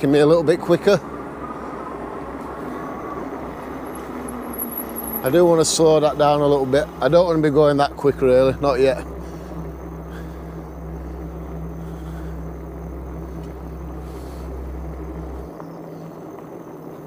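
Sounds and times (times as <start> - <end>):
tyres rolling on path: 0.0 - 17.0
electric bike motor drone: 1.0 - 17.0.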